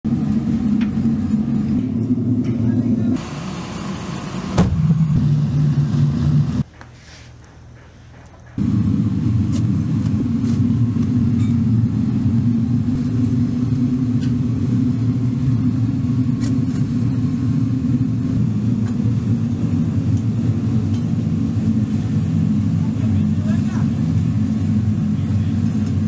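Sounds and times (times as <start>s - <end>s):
machinery rumbling: 0.0s - 6.7s, 7.6s - 26.0s.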